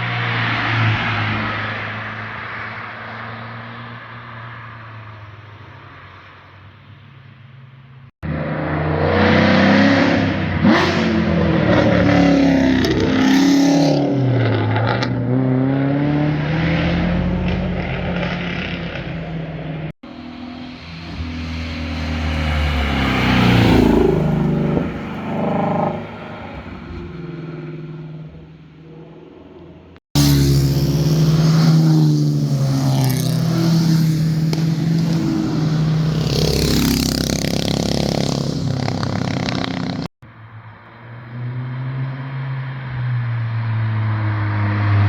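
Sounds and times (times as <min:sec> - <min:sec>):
cars driving past at speed: 0:00.0 - 0:45.0.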